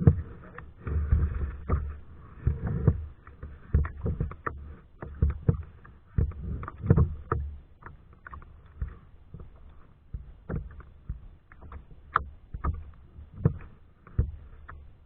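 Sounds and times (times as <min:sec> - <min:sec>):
paddle knocking on hull: 0:00.0 - 0:15.0
paddle strokes through water: 0:00.0 - 0:15.0.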